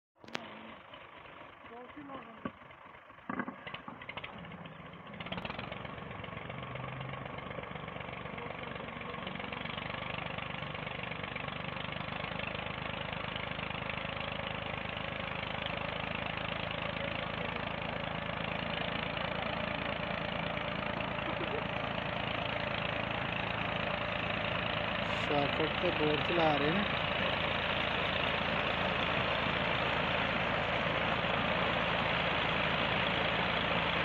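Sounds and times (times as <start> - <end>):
tractor diesel engine running: 0.2 - 34.0.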